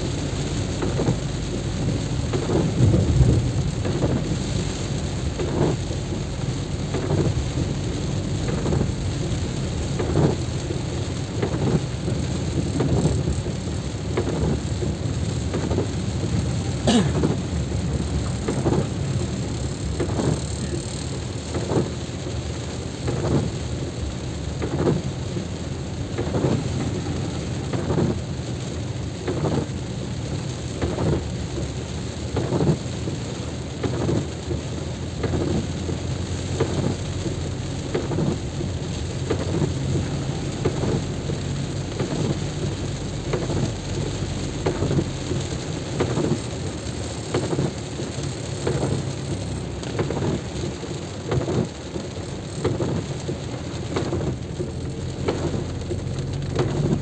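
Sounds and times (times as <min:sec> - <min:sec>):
low rumble of wind: 0:00.0 - 0:57.0
rain: 0:00.0 - 0:57.0.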